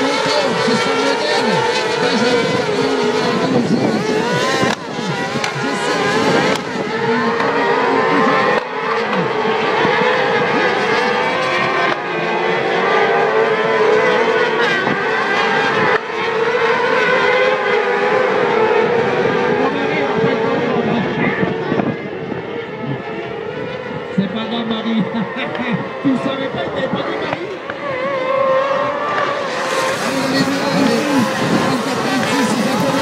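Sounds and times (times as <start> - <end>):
racing car engines revving: 0.0 - 33.0.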